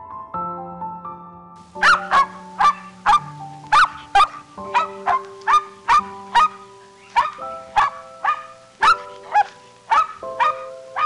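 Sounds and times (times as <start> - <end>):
music of held chords: 0.0 - 11.0
dog barking: 1.8 - 11.0.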